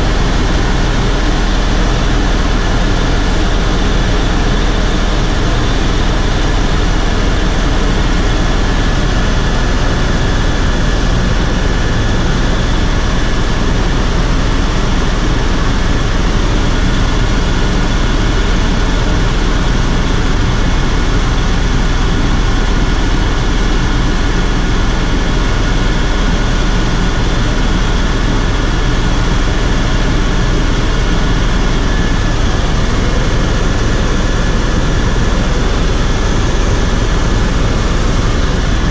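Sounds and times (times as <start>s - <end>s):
helicopter engine drone: 0.0s - 38.9s
high turbine whine: 0.0s - 38.9s.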